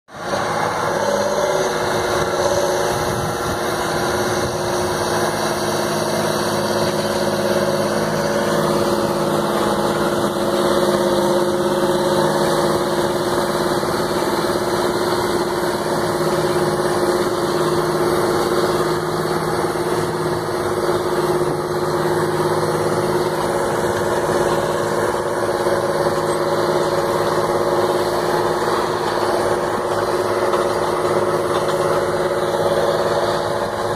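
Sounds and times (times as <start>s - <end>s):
tractor diesel engines running: 0.1s - 33.9s.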